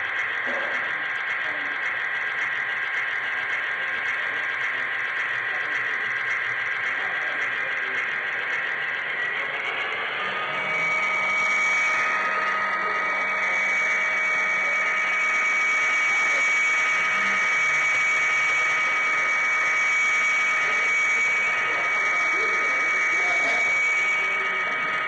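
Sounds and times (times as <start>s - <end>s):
model train motor whining: 0.0s - 25.0s.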